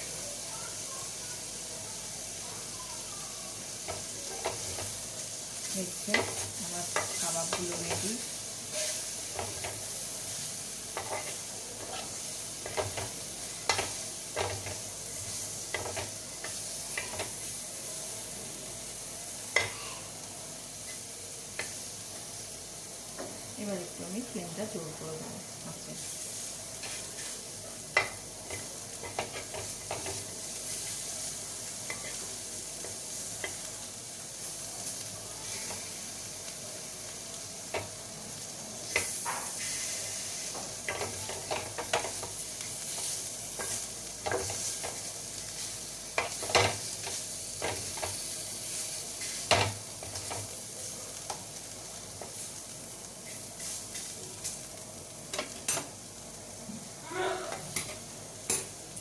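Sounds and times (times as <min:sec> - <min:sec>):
meat sizzling in a pan: 0:00.0 - 0:59.0.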